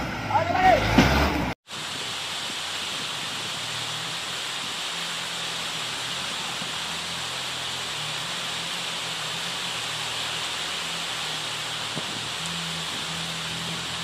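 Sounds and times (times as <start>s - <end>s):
diesel engine humming: 0.0s - 14.0s
heavy rain hissing: 1.6s - 14.0s.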